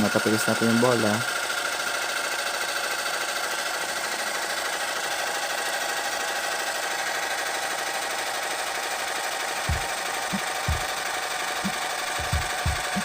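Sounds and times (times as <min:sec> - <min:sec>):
air compressor buzzing rattle: 0:00.0 - 0:13.0.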